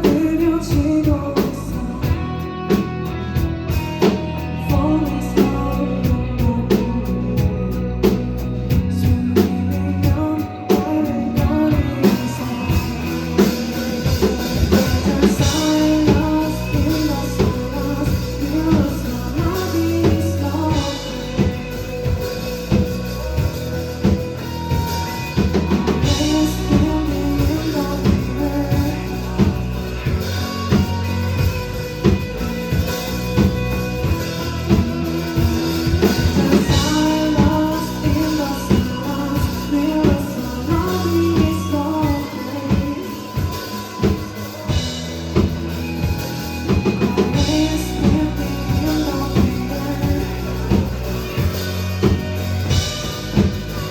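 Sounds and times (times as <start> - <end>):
band playing live: 0.0 - 53.9
drum kit beating: 0.0 - 53.9
person singing: 0.0 - 53.9.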